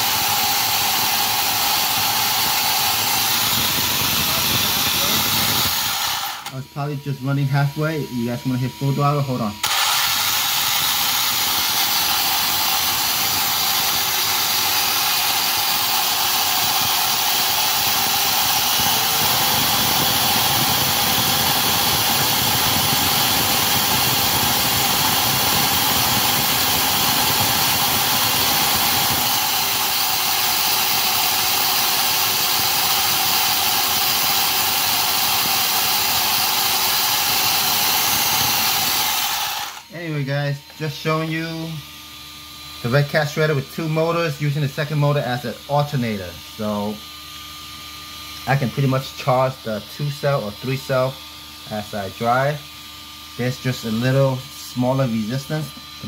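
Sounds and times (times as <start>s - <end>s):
electric motors and gears running: 0.0s - 56.0s
faint motor whine: 0.1s - 56.0s.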